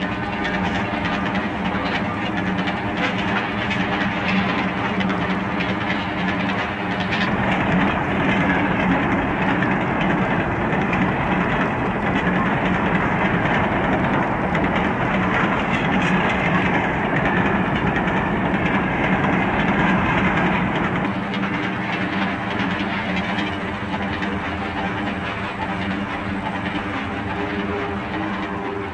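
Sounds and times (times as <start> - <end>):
model train rumbling on track: 0.0 - 28.9
steady hum: 0.0 - 28.9.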